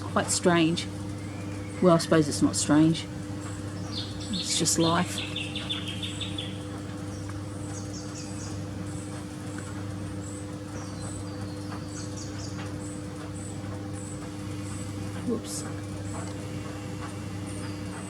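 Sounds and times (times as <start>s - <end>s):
steady low hum: 0.0s - 18.0s
small birds chirping and trilling: 0.5s - 18.0s.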